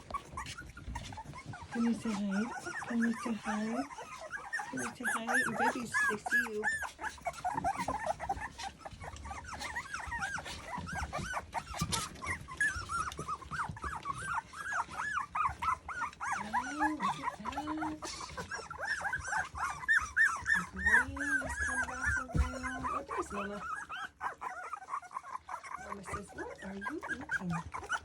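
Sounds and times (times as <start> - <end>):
puppies whining and squeaking: 0.0 - 28.0.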